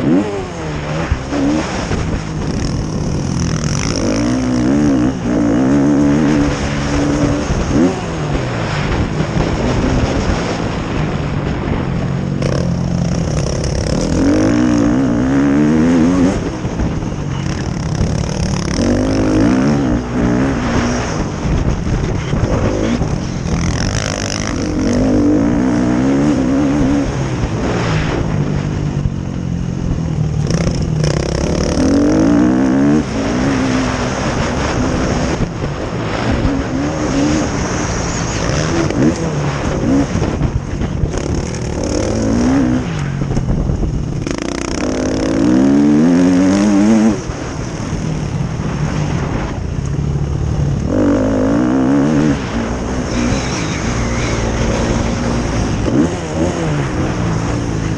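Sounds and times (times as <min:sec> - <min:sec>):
motocross bike engines revving: 0:00.0 - 0:57.9.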